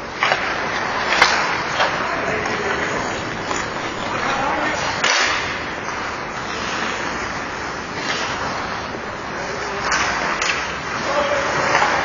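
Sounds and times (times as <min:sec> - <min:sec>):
skates rushing on ice: 0:00.0 - 0:12.0.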